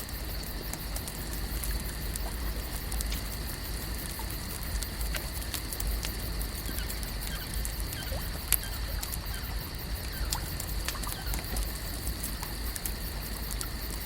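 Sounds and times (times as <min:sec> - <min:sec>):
sharp crackles and clicks: 0:00.0 - 0:14.0.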